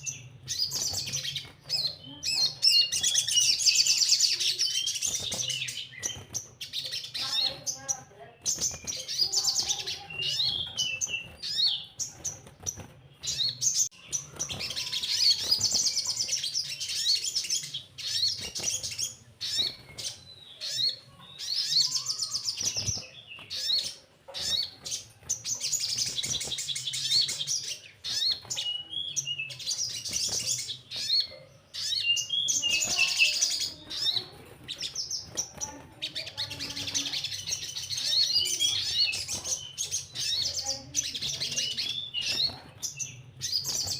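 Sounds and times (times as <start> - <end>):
sunbird singing chattering trills: 0.0 - 43.9.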